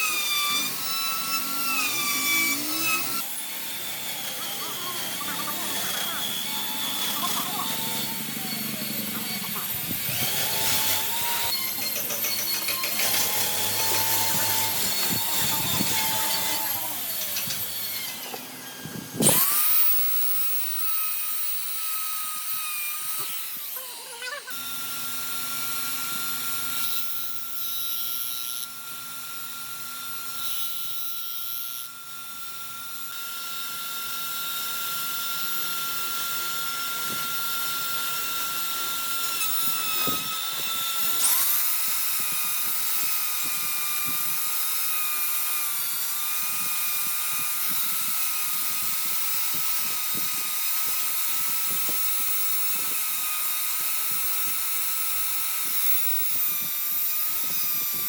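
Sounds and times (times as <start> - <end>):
power tool motor whine: 0.0 - 58.0.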